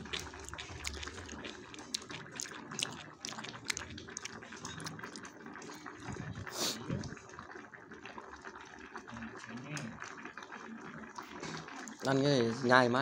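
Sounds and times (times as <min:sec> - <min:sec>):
broth bubbling at a boil: 0:00.0 - 0:13.0.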